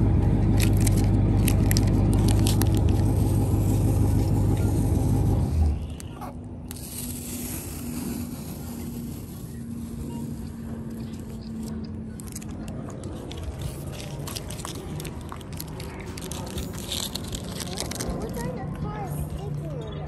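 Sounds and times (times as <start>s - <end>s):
tape peeling and crinkling: 0.0s - 18.6s
steady low rumble: 0.0s - 20.0s.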